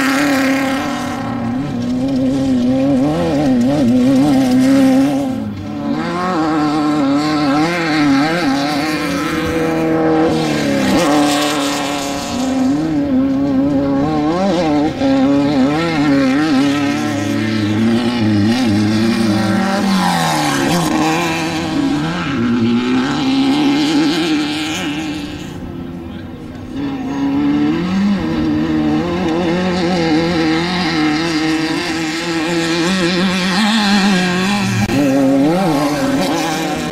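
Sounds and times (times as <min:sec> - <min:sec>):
lower engine note: 0:00.0 - 0:36.9
race vehicle engines revving: 0:00.0 - 0:36.9.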